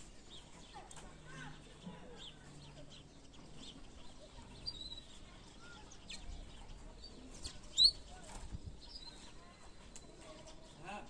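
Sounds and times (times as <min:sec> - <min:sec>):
low outdoor background: 0:00.0 - 0:11.0
songbird chirps: 0:00.0 - 0:11.0.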